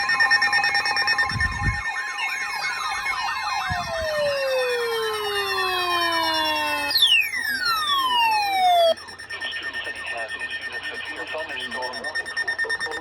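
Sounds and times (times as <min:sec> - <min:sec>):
sirens winding down: 0:00.0 - 0:13.0
steady alarm tones: 0:00.0 - 0:13.0
yelping siren: 0:00.0 - 0:13.0.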